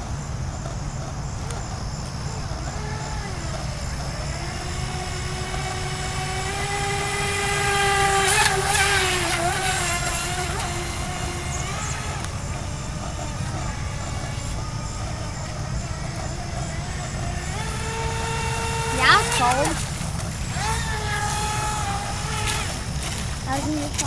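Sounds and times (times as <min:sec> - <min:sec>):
electric motor whine: 0:00.0 - 0:24.0
water spray rush: 0:02.8 - 0:24.0.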